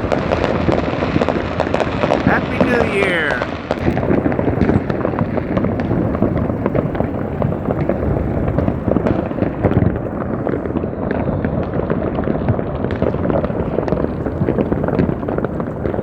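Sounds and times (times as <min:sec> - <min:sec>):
fireworks and firecrackers: 0:00.0 - 0:16.0.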